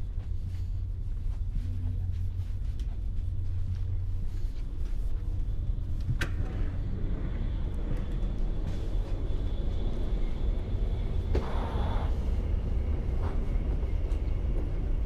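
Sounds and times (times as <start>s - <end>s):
train rumble from inside carriage: 0.0s - 15.0s.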